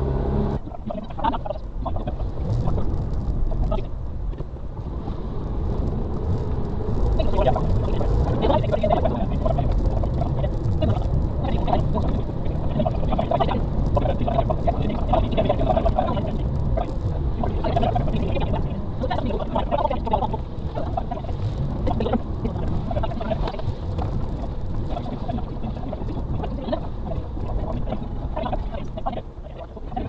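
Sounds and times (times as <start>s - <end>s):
truck engine rumbling under load: 0.0s - 30.0s.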